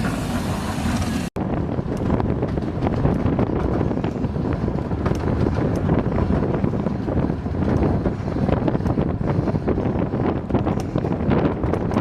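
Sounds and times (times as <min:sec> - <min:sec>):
miniature train rumbling: 0:00.0 - 0:12.0
wind on microphone: 0:00.0 - 0:12.0.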